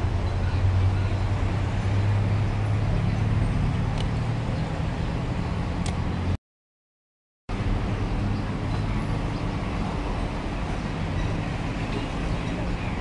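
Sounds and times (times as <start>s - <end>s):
street traffic rumble: 0.0s - 6.4s, 7.5s - 13.0s.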